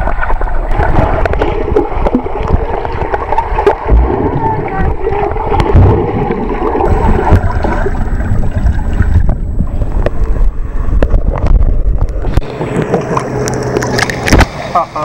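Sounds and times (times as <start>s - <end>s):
water churning and sloshing: 0.0s - 15.0s.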